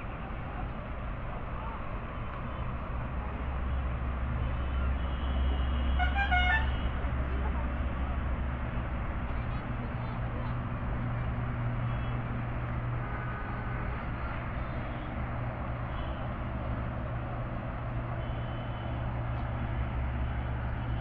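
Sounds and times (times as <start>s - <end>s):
road noise: 0.0s - 21.0s
vehicle engine drone: 0.0s - 21.0s.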